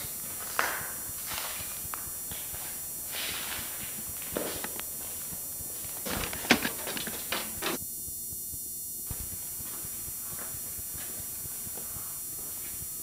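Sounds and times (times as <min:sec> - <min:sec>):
footsteps on hard floor: 0:00.0 - 0:07.8, 0:09.1 - 0:12.9
tape hiss: 0:00.0 - 0:13.0.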